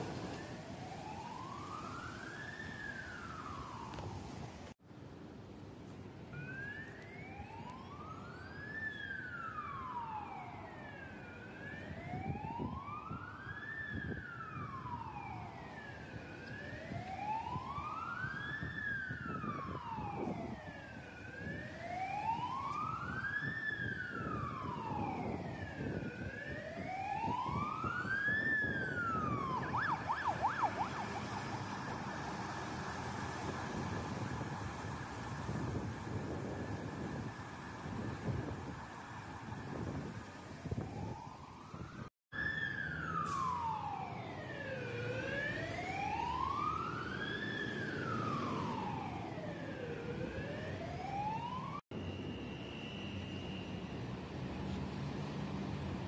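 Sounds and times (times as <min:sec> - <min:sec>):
fire engine siren: 0:00.0 - 0:04.8, 0:06.3 - 0:56.0
traffic noise: 0:00.0 - 0:56.0.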